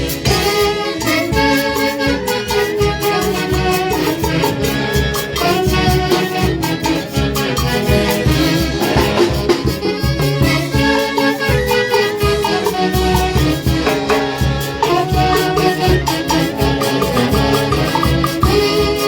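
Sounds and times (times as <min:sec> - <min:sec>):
band playing dance music: 0:00.0 - 0:19.0.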